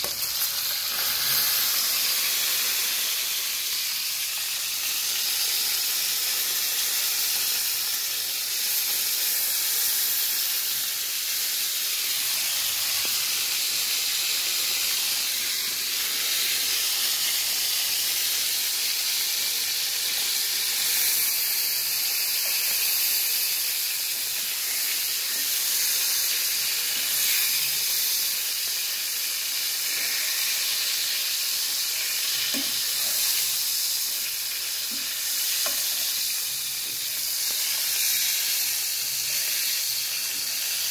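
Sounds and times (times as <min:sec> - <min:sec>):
fish frying in hot oil: 0:00.0 - 0:40.9.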